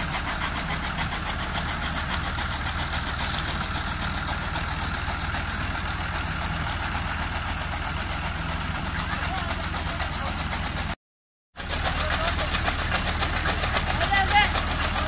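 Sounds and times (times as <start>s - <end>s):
tractor diesel engine running: 0.0s - 11.0s, 11.6s - 15.0s.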